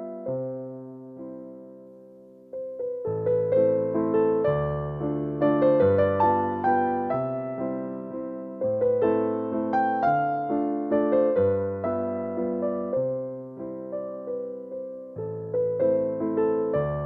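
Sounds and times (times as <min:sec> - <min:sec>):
soft electric piano melody: 0:00.0 - 0:17.0.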